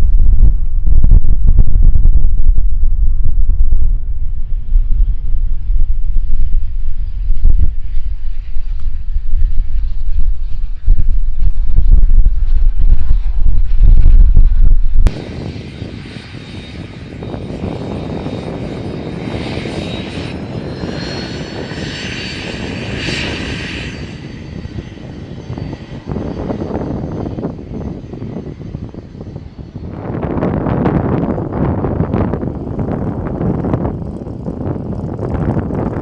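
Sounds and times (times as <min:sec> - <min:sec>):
faint high whine: 0:00.0 - 0:33.4
airplane engine passing: 0:00.0 - 0:36.0
wind buffeting microphone: 0:00.0 - 0:36.0.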